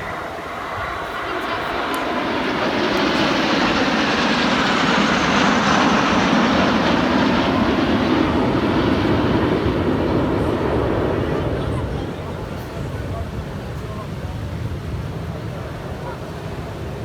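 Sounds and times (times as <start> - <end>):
aircraft engine flying past: 0.0 - 17.0.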